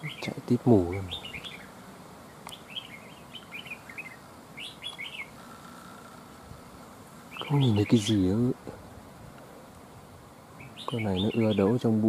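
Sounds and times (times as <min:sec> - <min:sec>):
birds singing chirpy notes: 0:00.0 - 0:12.0.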